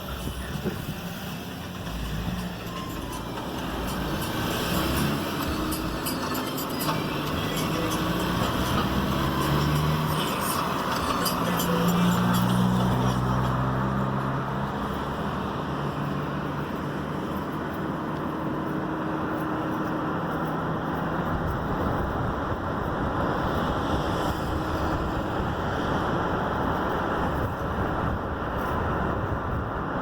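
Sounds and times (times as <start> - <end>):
road and tyre noise in car: 0.0 - 30.0.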